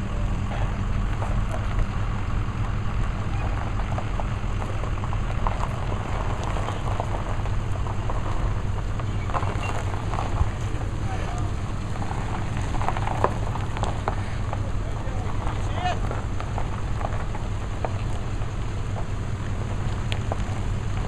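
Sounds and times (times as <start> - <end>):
gravel crunching: 0.0 - 21.0
pickup truck engine running: 0.0 - 21.0.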